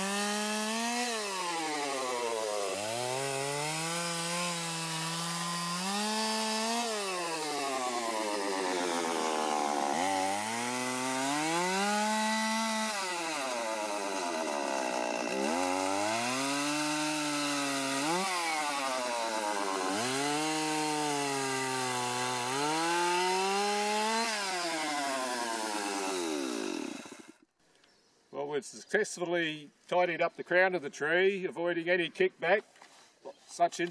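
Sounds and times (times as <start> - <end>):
chainsaw cutting branches: 0.0 - 27.4.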